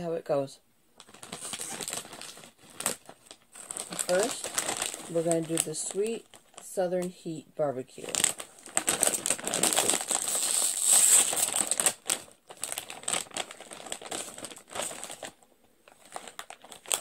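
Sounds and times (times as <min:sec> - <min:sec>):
chip bag crinkling and tearing: 0:01.0 - 0:07.1, 0:08.0 - 0:17.0.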